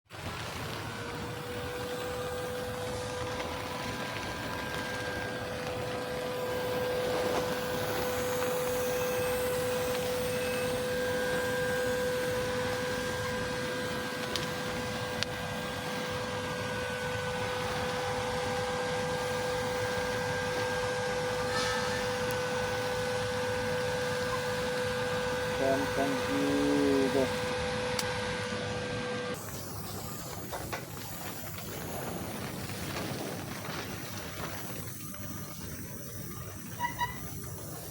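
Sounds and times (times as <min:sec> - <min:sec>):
welding arc buzzing and hissing: 0:00.1 - 0:37.9.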